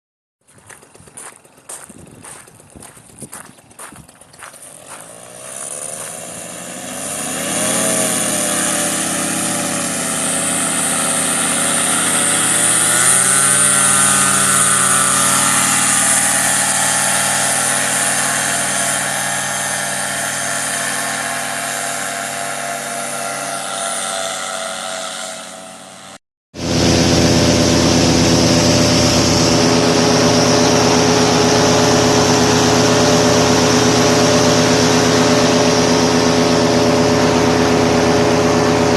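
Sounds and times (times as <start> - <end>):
paramotor engine and propeller: 0.4 - 38.9.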